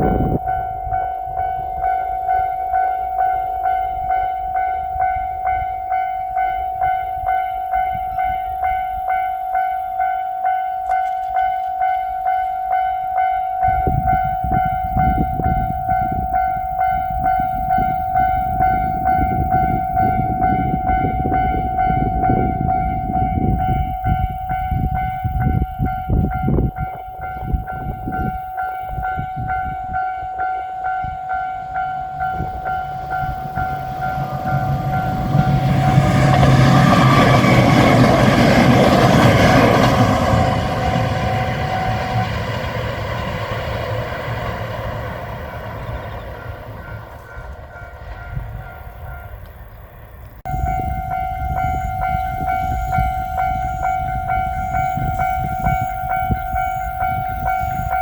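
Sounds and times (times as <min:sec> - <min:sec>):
level-crossing bell dinging: 0:00.0 - 0:42.7, 0:50.5 - 0:58.0
train passing: 0:00.0 - 0:58.0.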